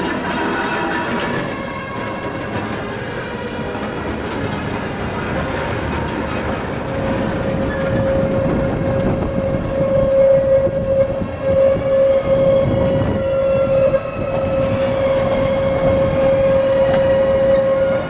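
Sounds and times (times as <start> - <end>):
electric tram rumbling with whine: 0.0 - 18.0.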